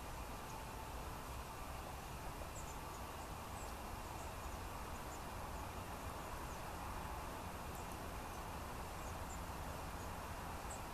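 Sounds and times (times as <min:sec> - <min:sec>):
background hiss: 0:00.0 - 0:10.9
small birds chirping: 0:00.0 - 0:10.9.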